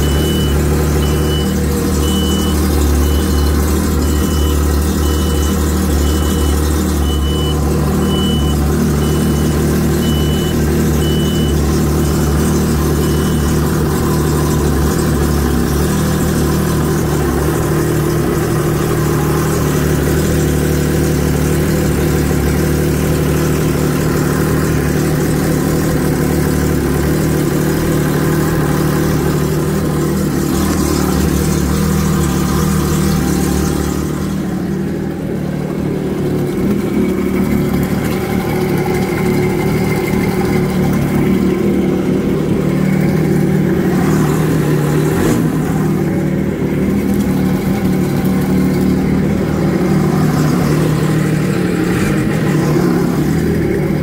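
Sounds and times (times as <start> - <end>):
watercraft engine running: 0.0 - 54.0.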